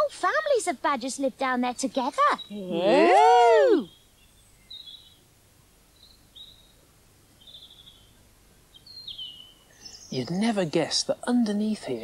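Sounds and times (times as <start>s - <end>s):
faint outdoor hiss: 0.0s - 12.0s
birds chirping: 0.6s - 12.0s.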